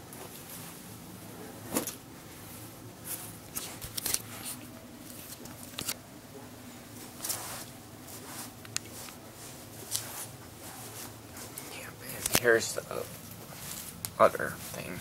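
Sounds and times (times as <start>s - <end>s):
rustling and handling noises: 0.0s - 15.0s.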